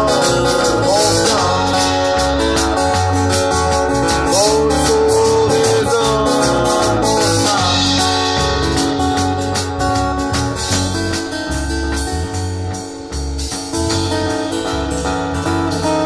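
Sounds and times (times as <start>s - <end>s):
blues band playing: 0.0s - 16.0s
lead guitar sliding notes: 0.0s - 16.0s.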